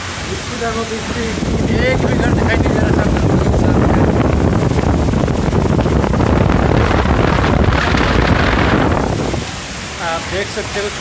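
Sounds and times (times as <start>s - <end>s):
torrential rain hiss: 0.0s - 11.0s
storm wind gusting: 1.1s - 10.0s.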